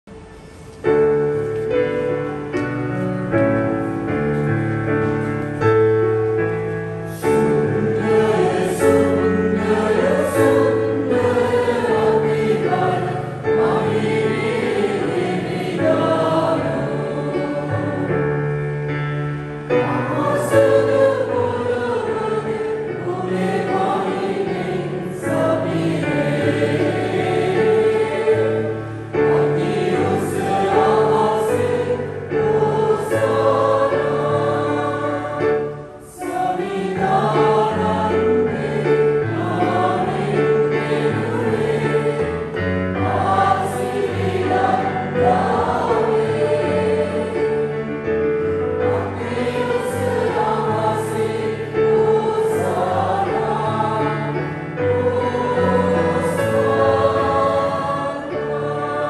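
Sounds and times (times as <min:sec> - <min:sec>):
digital piano accompaniment: 0:00.0 - 0:59.0
choir singing a hymn: 0:00.1 - 0:59.0.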